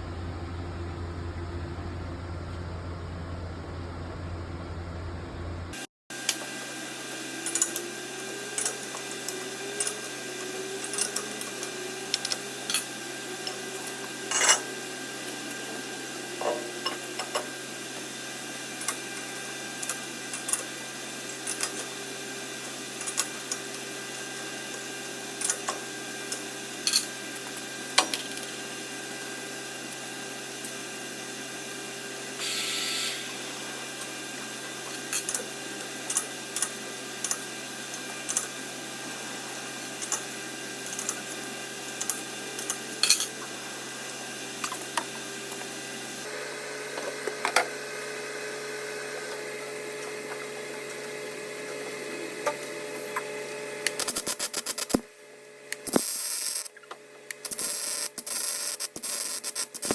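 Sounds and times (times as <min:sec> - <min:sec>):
workshop machine humming: 0:00.0 - 0:59.9.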